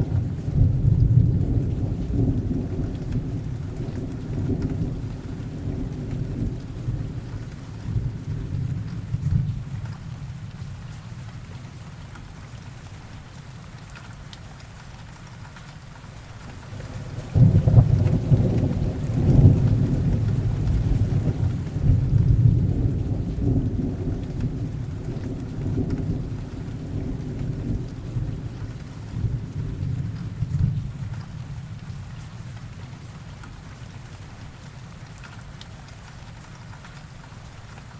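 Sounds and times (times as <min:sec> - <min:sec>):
steady rainfall: 0:00.0 - 0:37.9.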